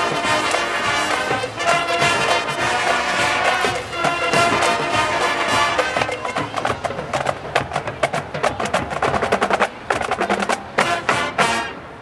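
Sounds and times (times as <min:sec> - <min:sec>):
marching drumline playing: 0:00.0 - 0:11.8.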